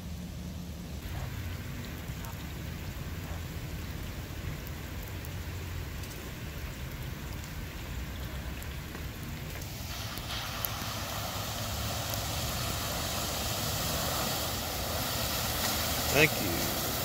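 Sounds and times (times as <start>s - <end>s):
rain on standing water: 0.0s - 17.0s
heavy rain on pavement: 1.0s - 17.0s.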